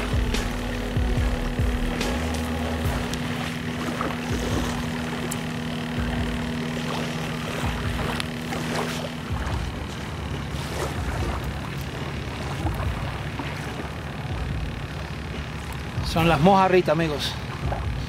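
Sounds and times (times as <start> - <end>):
motor humming: 0.0 - 18.0.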